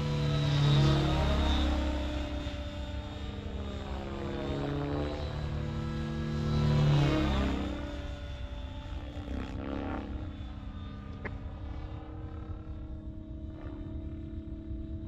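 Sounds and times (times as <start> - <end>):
helicopter rotor and motor whine: 0.0 - 15.0.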